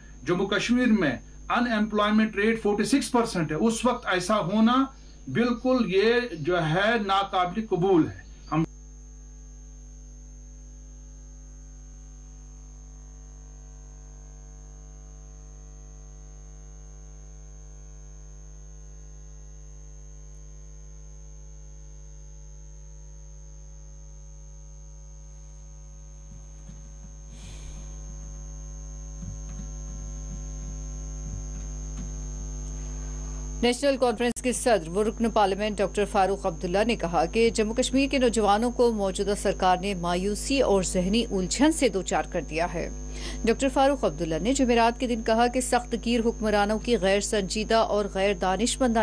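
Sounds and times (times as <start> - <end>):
electrical mains hum: 0.0 - 49.0
faint high whine: 0.0 - 49.0.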